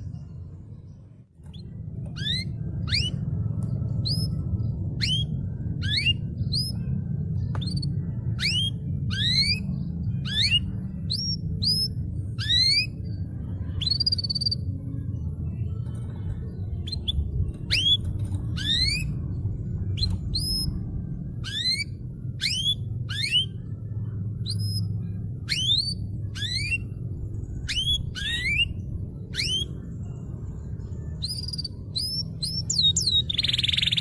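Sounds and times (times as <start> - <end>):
steady low hum: 0.0 - 34.0
canary chirping: 1.4 - 13.2, 13.8 - 14.8, 16.8 - 20.8, 21.4 - 23.7, 24.4 - 30.1, 31.1 - 34.0.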